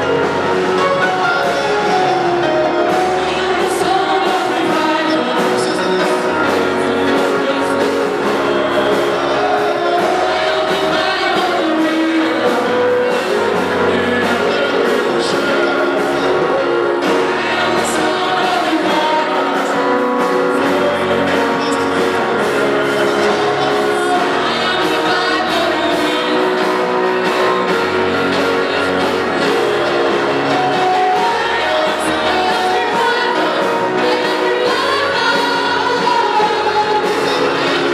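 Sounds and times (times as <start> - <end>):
instrumental accompaniment with beat: 0.0 - 37.9
voices singing gospel: 0.0 - 37.9.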